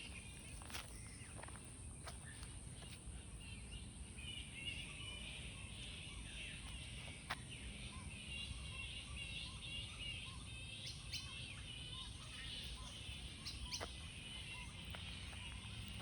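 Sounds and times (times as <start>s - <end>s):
bird chirping: 0.0s - 16.0s
low outdoor background noise: 0.0s - 16.0s.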